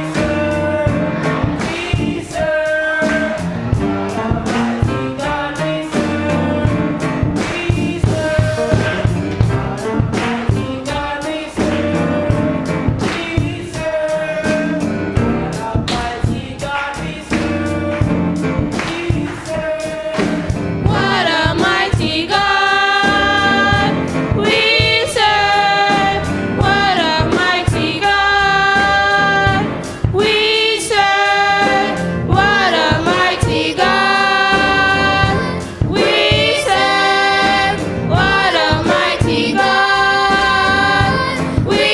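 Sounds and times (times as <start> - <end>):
band playing a steady beat: 0.0 - 41.9
gospel choir singing: 0.0 - 41.9.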